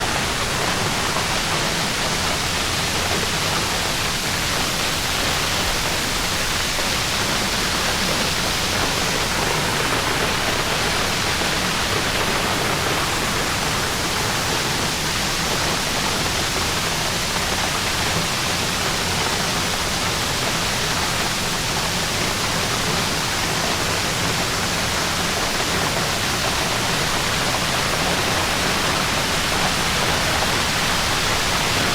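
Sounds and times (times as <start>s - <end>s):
waterfall roaring: 0.0s - 31.9s.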